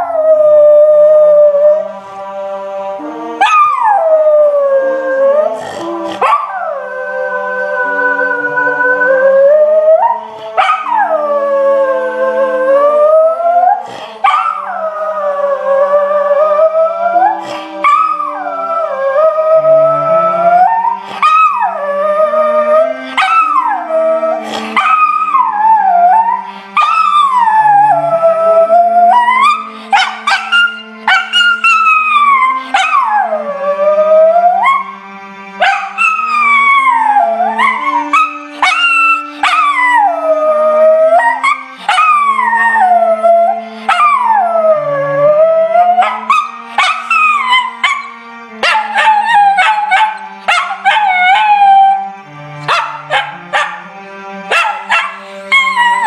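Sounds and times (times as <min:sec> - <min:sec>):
puppy howling: 0:00.0 - 0:01.9, 0:03.3 - 0:35.0, 0:35.6 - 0:56.0
slow low music: 0:00.0 - 0:56.0.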